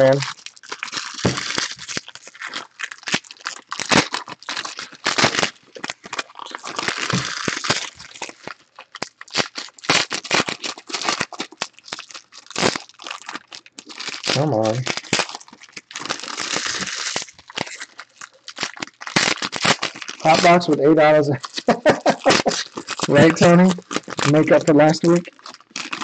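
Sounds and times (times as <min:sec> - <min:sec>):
foil wrappers crinkling: 0:00.0 - 0:26.0.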